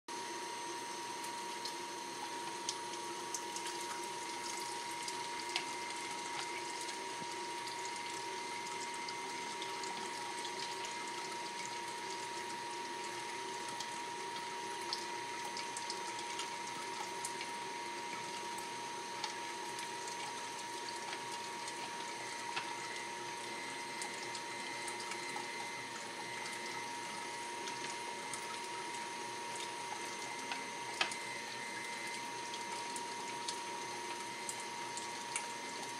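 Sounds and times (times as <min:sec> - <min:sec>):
electric food strainer humming: 0:00.1 - 0:35.9.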